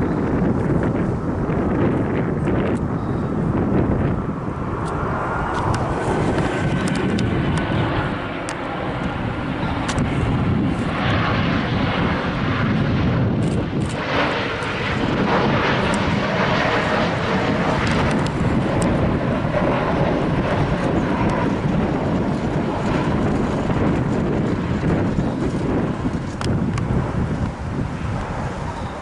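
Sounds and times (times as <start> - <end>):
jet engines rushing overhead: 0.0 - 29.0.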